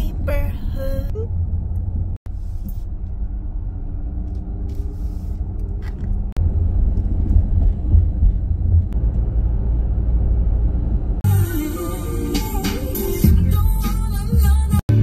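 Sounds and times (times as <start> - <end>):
faint engine hum: 0.0 - 14.8
tyre and engine rumble: 0.0 - 15.0.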